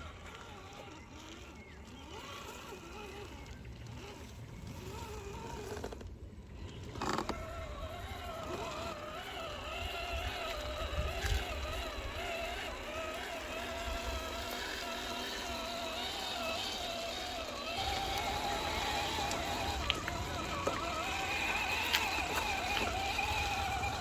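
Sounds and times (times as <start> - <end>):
toy car motor whining: 0.0 - 24.0.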